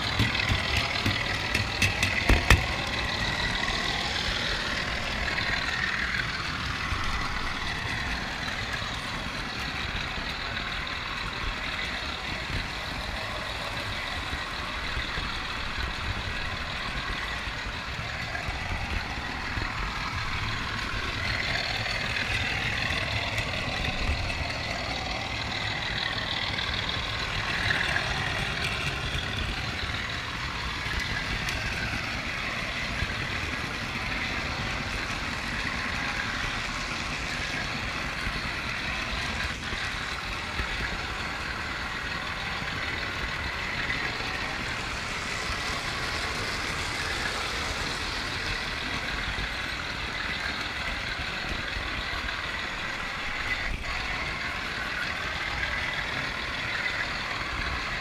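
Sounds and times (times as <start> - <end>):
model train wheels clattering: 0.0 - 58.0.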